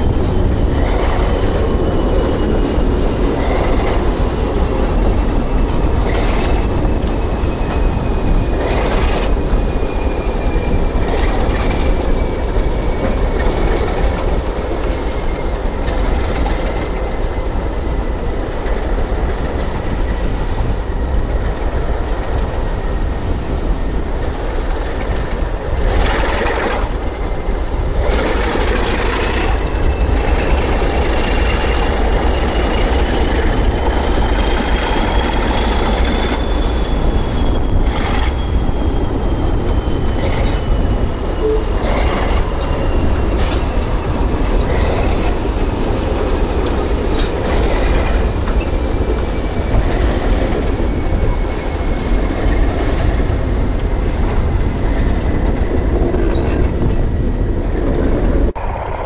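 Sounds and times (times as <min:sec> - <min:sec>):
freight train rumble and clatter: 0:00.0 - 0:59.0.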